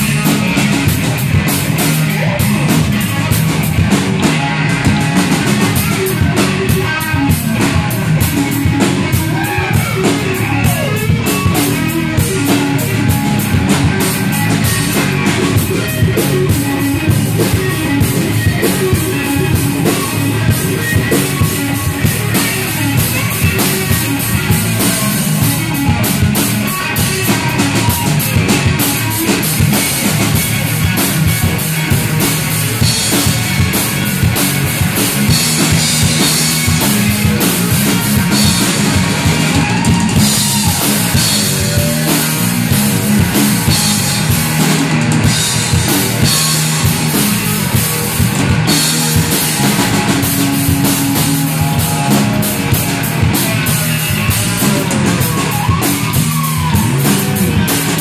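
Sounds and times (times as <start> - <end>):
drum kit playing steadily: 0.0 - 58.0
electric guitar lead with note bends: 0.0 - 58.0
live rock band: 0.0 - 58.0.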